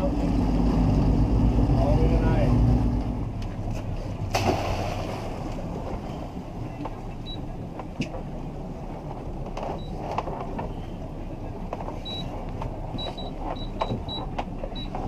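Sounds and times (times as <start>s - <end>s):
outboard motors idling: 0.0s - 15.0s
sea water: 0.0s - 15.0s
wind: 0.0s - 15.0s.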